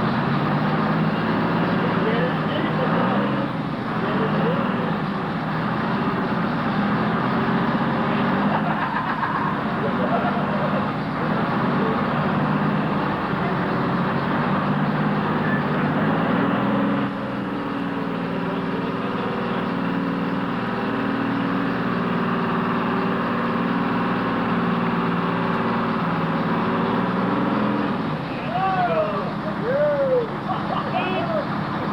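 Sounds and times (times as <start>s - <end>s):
heavy truck engine running: 0.0s - 31.9s.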